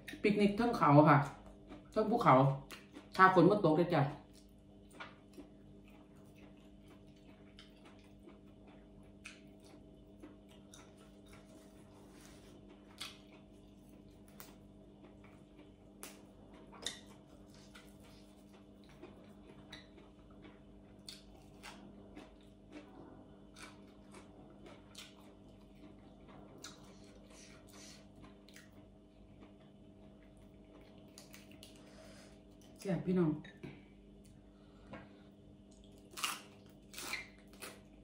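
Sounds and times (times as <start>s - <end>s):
steady low hum: 0.0s - 38.0s
chewing crunches and mouth clicks: 1.2s - 3.2s, 4.2s - 32.9s, 35.6s - 38.0s.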